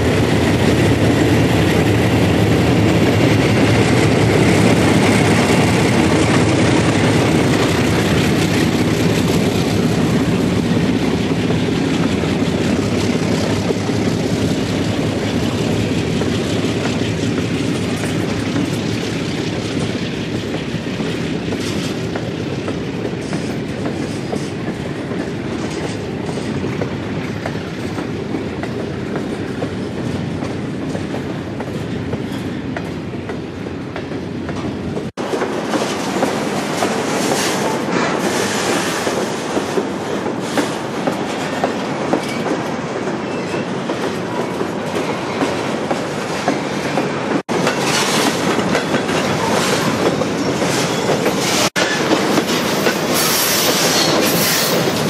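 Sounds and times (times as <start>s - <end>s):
freight train rail rumble: 0.0s - 55.0s.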